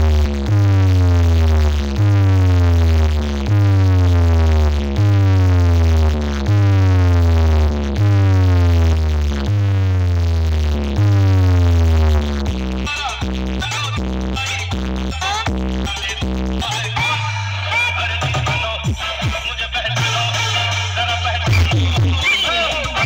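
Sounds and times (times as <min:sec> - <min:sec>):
deep bass note repeating: 0:00.0 - 0:22.2.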